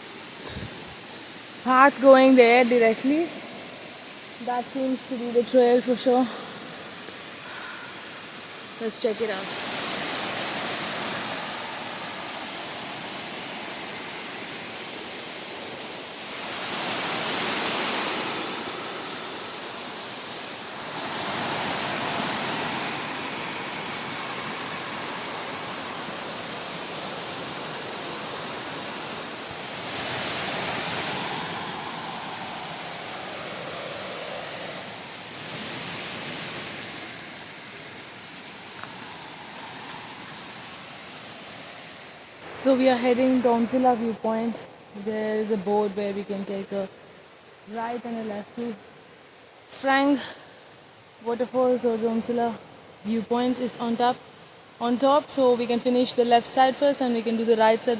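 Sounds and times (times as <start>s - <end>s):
stream and waterfall rushing: 0.0s - 57.9s.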